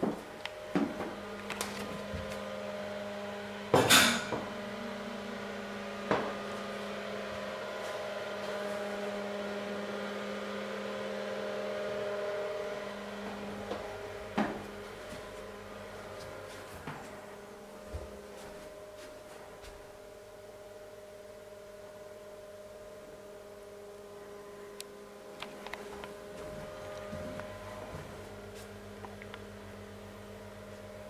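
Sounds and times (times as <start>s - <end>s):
electrical motor hum: 0.0s - 31.0s.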